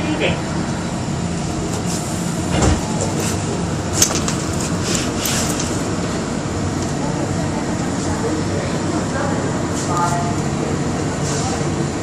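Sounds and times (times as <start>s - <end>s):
train car hum: 0.0s - 12.0s.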